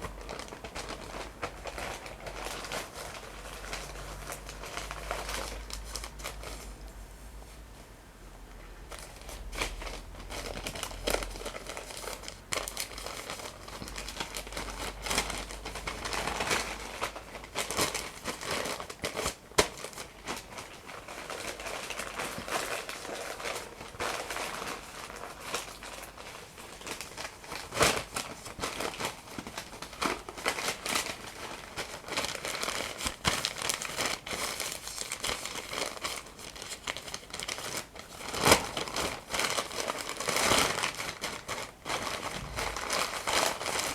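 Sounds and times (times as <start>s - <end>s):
paper crumpling: 0.0s - 6.8s, 8.9s - 43.9s.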